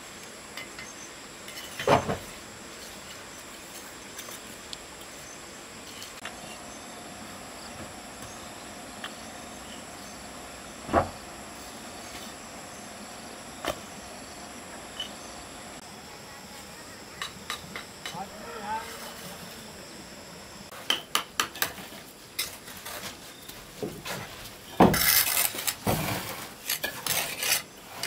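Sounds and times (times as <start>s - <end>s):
insects chirring: 0.0s - 23.8s.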